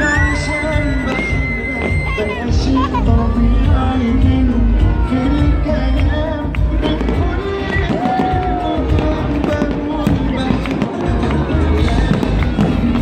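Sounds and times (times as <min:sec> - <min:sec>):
crowd voices: 0:00.0 - 0:13.0
loud music: 0:00.0 - 0:13.0.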